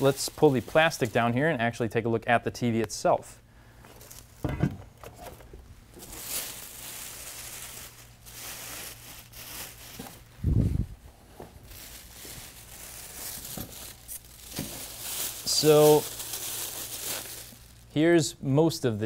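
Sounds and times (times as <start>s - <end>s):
plastic wrap crinkling: 0.0s - 1.8s, 3.9s - 4.4s, 5.0s - 18.0s.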